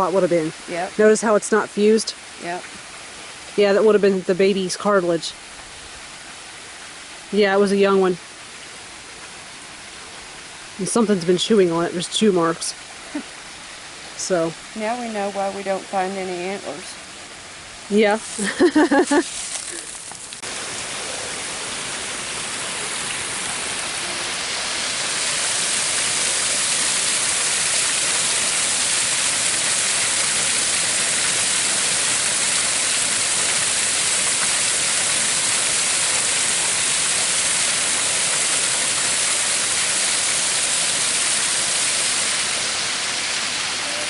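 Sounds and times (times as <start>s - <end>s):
rushing water: 0.0s - 44.0s.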